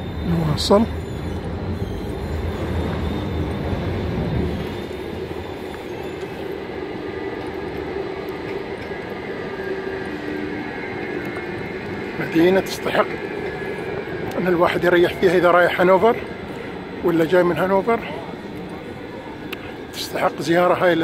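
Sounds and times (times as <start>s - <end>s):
electric tram running on rails: 0.0s - 21.0s.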